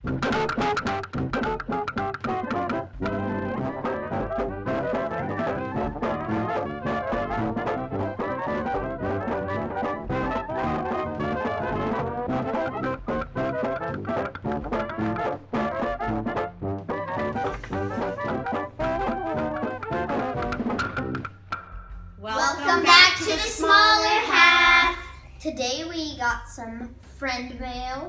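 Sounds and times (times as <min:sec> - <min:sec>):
upbeat brass music: 0:00.0 - 0:21.3, 0:22.4 - 0:25.2.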